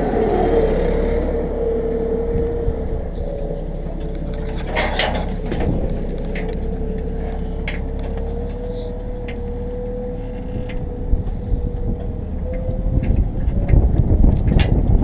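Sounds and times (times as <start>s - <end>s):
low buffeting: 0.0s - 15.0s
tractor engine with whine: 0.0s - 15.0s.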